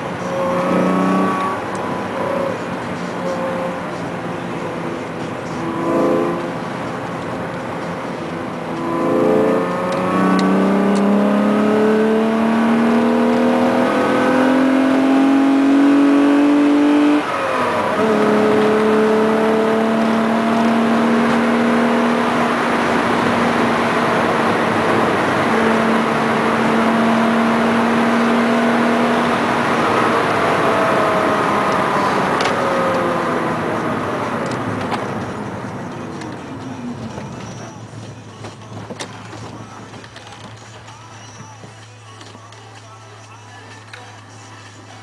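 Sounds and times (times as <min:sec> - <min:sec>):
car engine revving in cabin: 0:00.0 - 0:38.1.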